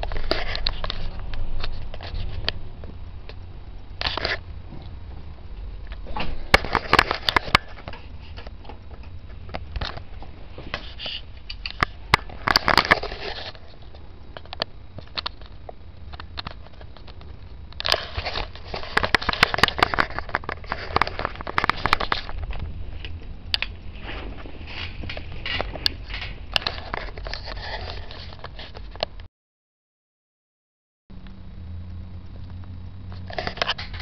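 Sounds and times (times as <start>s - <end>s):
low hum: 0.0s - 28.2s, 31.1s - 34.0s.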